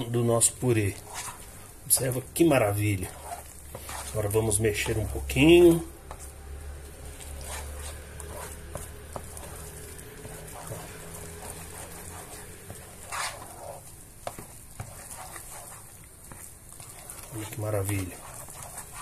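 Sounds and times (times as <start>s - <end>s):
spatula squishing and scraping: 0.0s - 19.0s.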